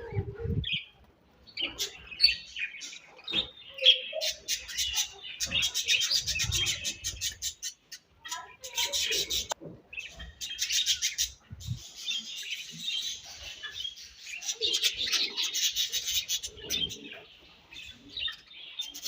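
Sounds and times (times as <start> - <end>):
budgerigars chirping and chattering: 1.5 - 19.0.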